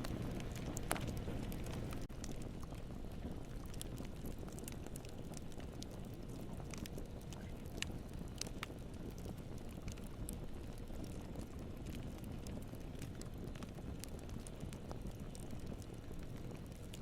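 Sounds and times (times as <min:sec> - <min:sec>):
burning wood crackling and popping: 0:00.0 - 0:17.0
flame rushing: 0:00.0 - 0:17.0.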